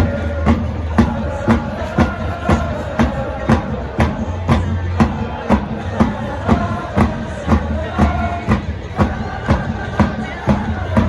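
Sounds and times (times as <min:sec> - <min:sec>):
crowd chanting: 0:00.0 - 0:11.0
drum beating steadily: 0:00.0 - 0:11.0.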